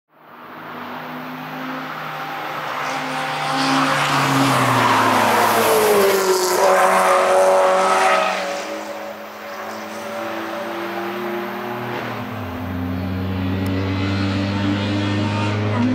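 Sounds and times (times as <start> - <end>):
sports car engine passing: 0.4 - 15.9.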